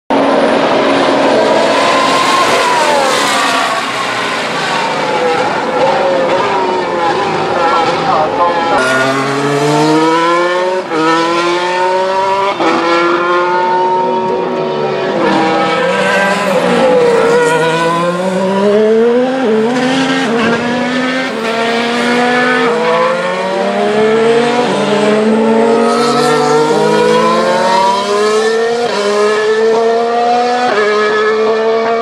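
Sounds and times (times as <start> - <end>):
race car engines accelerating: 0.1 - 32.0.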